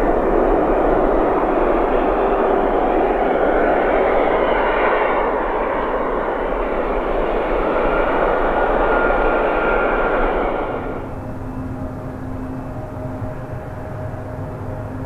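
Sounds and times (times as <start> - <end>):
jet engines running loud: 0.0 - 15.0.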